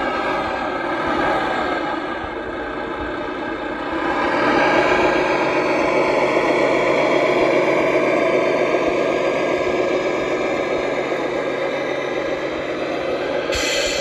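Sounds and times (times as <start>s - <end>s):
diesel truck engine sound: 0.0s - 14.0s.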